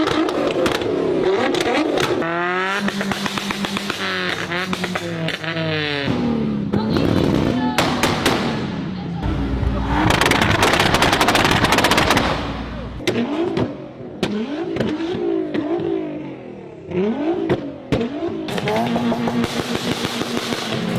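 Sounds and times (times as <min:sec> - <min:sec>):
car exhaust crackling and popping: 0:00.0 - 0:06.4, 0:07.0 - 0:20.9
car engine revving: 0:00.0 - 0:20.9.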